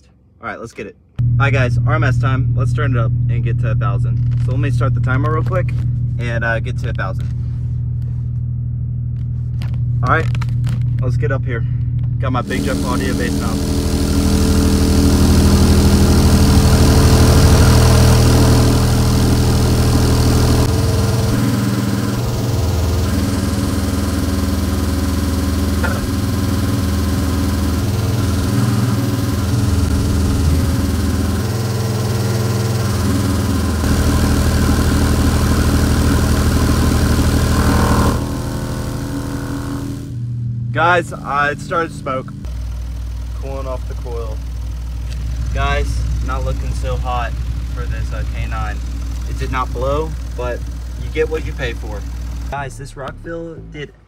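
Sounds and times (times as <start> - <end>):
subwoofer low bass drone: 1.2 - 54.0.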